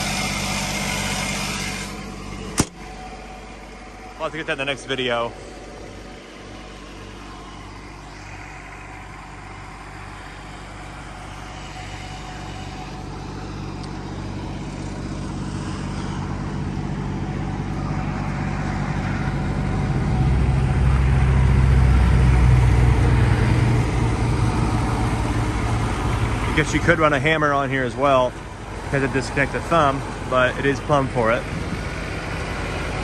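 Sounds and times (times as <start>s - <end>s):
mini excavator diesel engine running: 0.0s - 33.0s.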